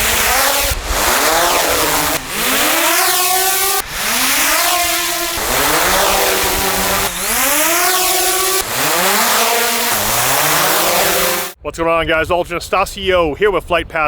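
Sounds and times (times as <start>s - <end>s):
drone motors whining: 0.0s - 11.6s.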